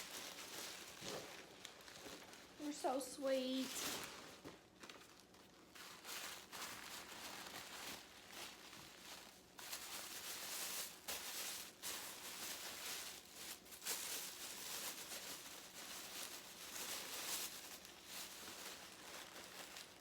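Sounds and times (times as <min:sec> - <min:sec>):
gift packaging rustling: 0:00.0 - 0:20.0.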